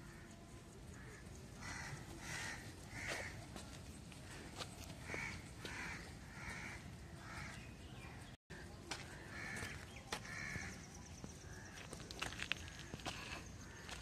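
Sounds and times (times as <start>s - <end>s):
crows cawing: 0.0s - 3.5s, 4.2s - 7.7s, 8.9s - 10.8s, 11.4s - 14.0s.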